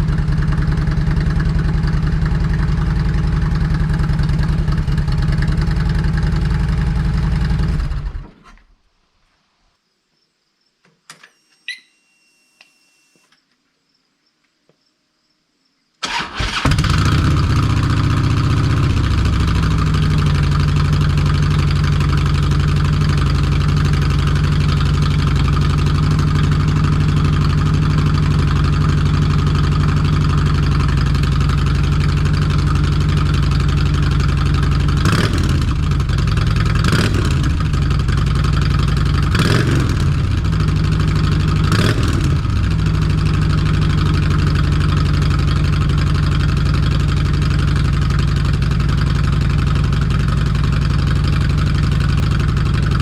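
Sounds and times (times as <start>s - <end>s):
motorcycle engine idling: 0.0s - 8.2s, 16.0s - 53.0s.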